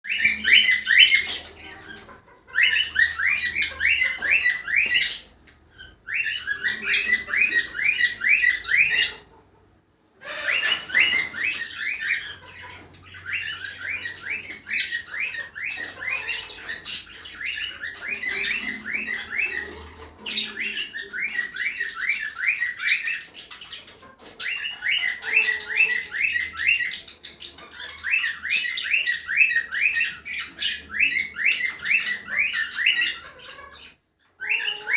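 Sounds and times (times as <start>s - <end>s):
cockatiels chirping and squawking: 0.1s - 34.9s.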